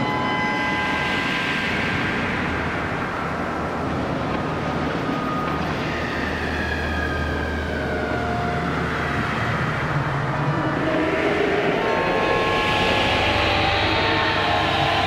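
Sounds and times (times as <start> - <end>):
low rumble with wavering tone: 0.0 - 15.0.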